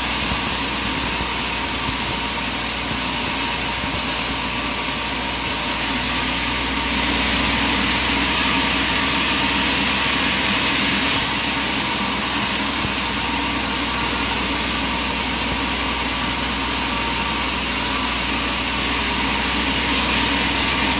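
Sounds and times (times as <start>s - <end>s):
sawmill engine drone with whine: 0.0s - 20.9s.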